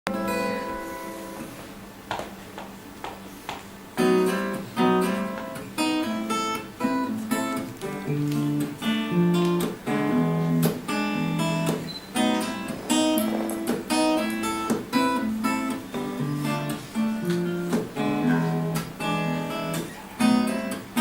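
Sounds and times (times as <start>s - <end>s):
acoustic guitar strumming chords: 0.1s - 1.6s, 4.0s - 21.0s.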